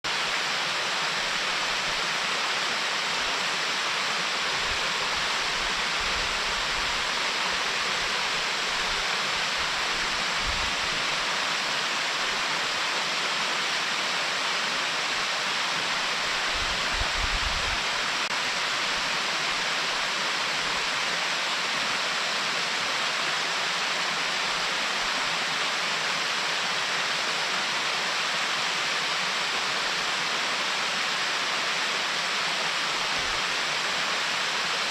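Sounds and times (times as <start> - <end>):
stream rushing over waterfall: 0.1 - 34.9.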